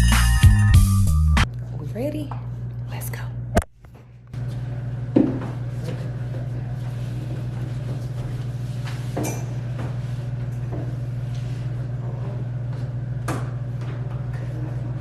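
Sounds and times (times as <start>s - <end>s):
steady low hum: 1.4s - 15.0s.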